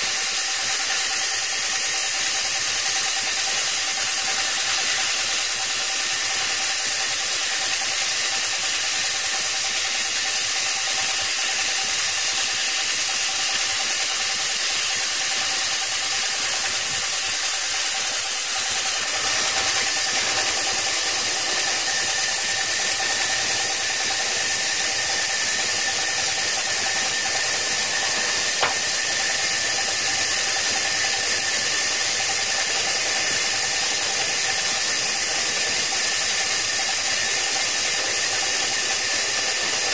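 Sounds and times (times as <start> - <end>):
band saw sawing through a log: 0.0 - 39.9.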